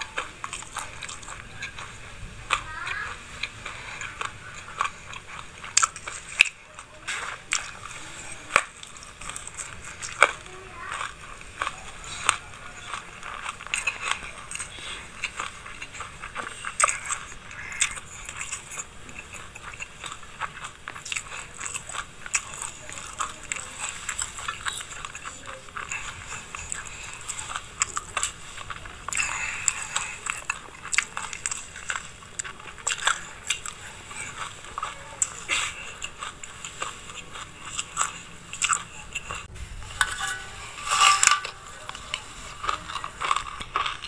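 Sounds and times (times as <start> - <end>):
chewing crunchy seeds: 0.0 - 44.0.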